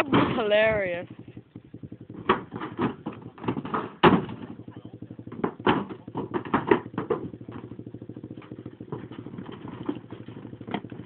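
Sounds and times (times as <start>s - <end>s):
atv engine idling: 0.0s - 11.0s
knocks and clatter: 0.0s - 11.0s.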